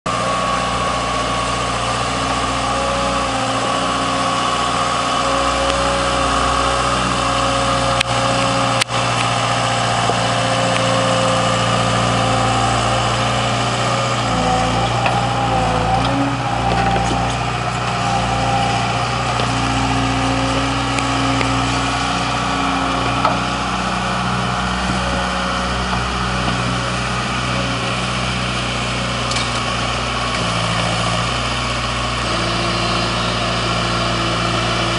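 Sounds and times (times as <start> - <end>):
tracked vehicle engine running: 0.0 - 34.9.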